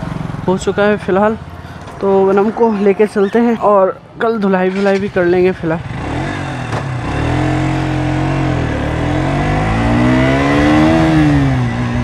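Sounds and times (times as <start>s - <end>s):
motorcycle engine accelerating: 0.0s - 2.6s, 4.7s - 12.0s.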